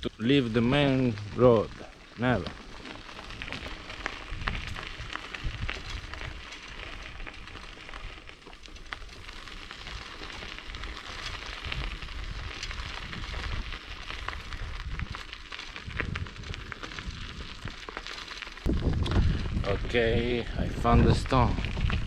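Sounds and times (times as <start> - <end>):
bicycle tyres crunching on gravel: 0.0 - 22.0.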